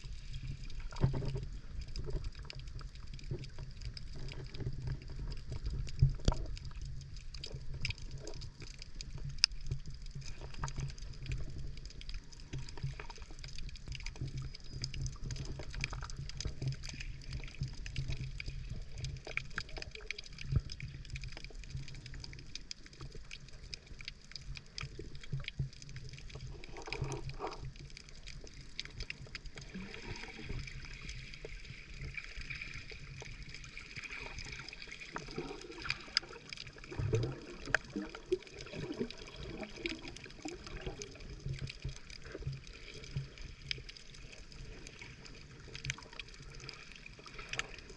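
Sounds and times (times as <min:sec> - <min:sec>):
small clicks and crackles: 0:00.0 - 0:47.9
underwater rumble of moving water: 0:00.0 - 0:47.9
water gurgle: 0:00.0 - 0:47.9.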